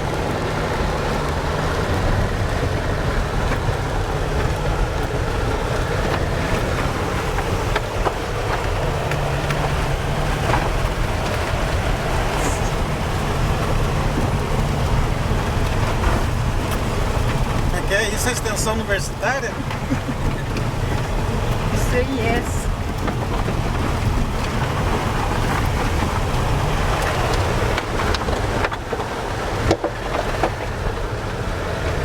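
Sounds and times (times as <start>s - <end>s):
vehicle engine and road noise: 0.0s - 32.0s.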